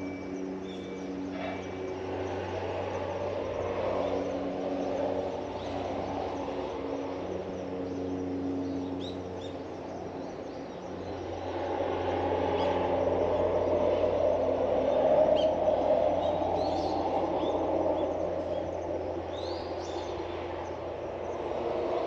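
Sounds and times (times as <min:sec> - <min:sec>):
engine hum: 0:00.0 - 0:22.0
traffic rushing noise: 0:00.0 - 0:22.0.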